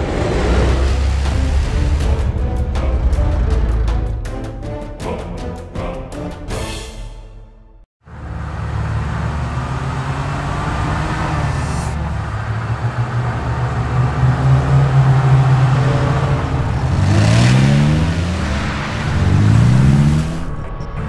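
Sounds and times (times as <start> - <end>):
car engine droning and revving: 0.0 - 4.4, 8.0 - 21.0.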